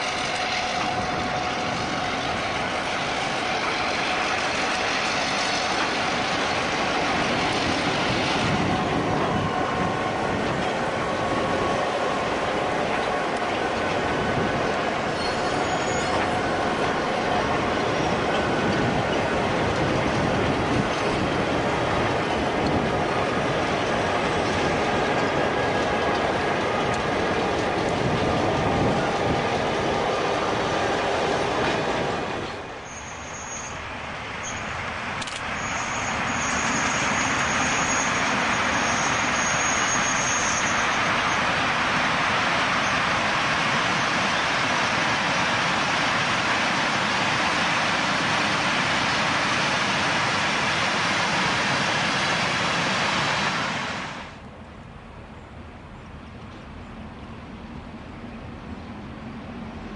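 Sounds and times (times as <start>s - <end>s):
diesel locomotive engines: 0.0s - 59.9s.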